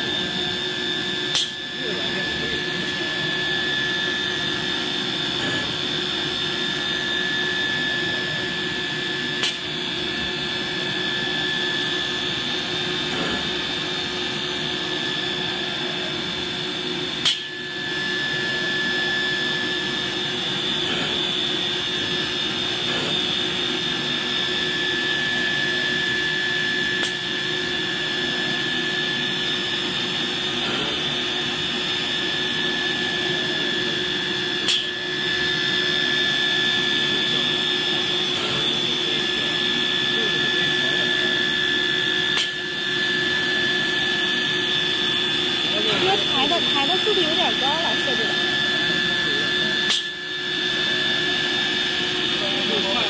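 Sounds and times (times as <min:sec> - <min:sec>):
router spindle whine: 0:00.0 - 0:53.0.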